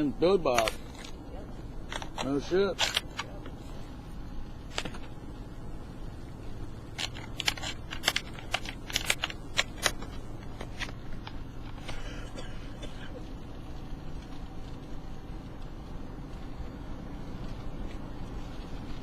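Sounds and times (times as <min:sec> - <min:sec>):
road rumble inside truck: 0:00.0 - 0:19.0.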